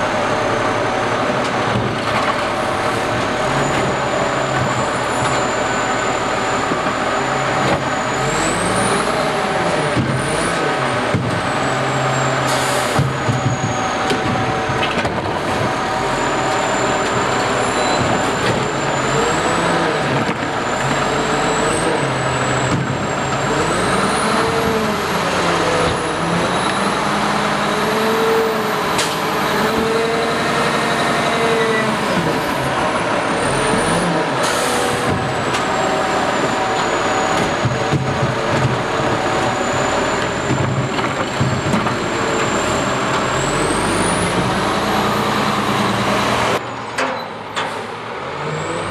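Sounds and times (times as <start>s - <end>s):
garbage truck engine and hydraulics: 0.0s - 48.9s.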